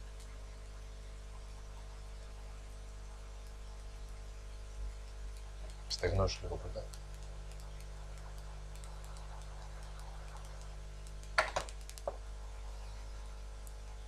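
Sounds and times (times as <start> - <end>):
faint ticks: 0.0 - 12.2, 13.2 - 13.9
electrical hum: 0.0 - 14.0.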